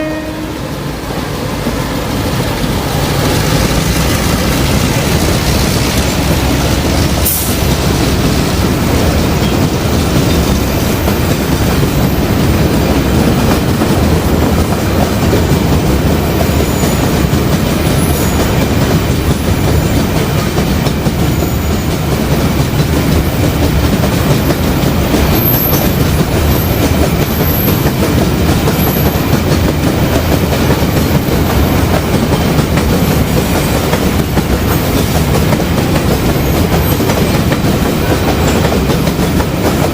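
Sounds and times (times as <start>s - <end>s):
locomotive engine running: 0.0s - 39.9s
train wheels clattering on rails: 0.0s - 39.9s.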